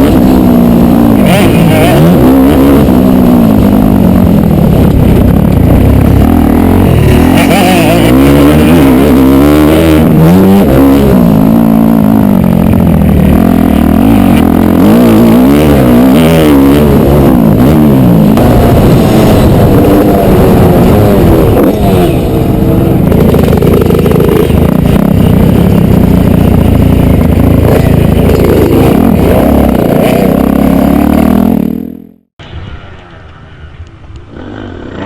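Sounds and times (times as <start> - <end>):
dirt bike engine revving: 0.0 - 32.3.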